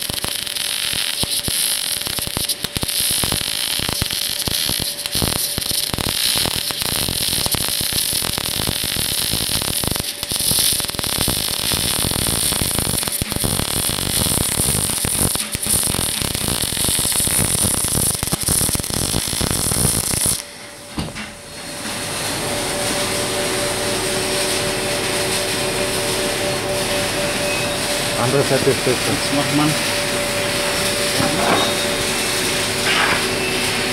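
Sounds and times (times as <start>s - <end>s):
welding arc crackling hiss: 0.0s - 33.9s.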